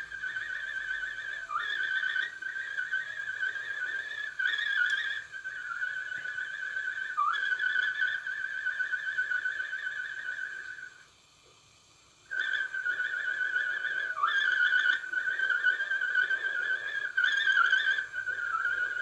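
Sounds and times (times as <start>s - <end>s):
man whistling a long note: 0.0s - 11.0s, 12.3s - 19.0s.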